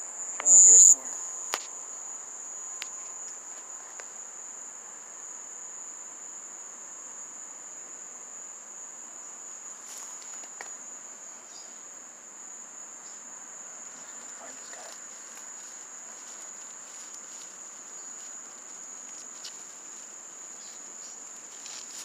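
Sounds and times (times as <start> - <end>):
mole cricket trilling: 0.0 - 22.0.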